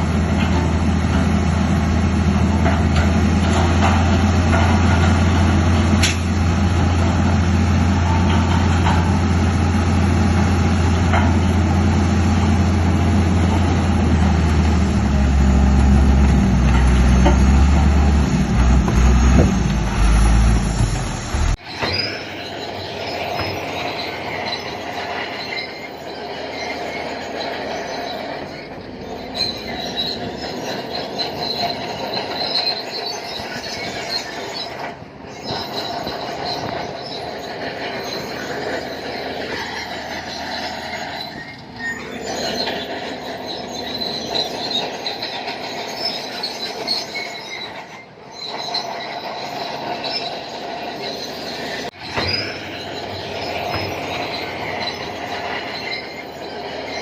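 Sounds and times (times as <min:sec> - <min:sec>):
bulldozer tracks squealing and clanking: 0:00.0 - 0:57.0.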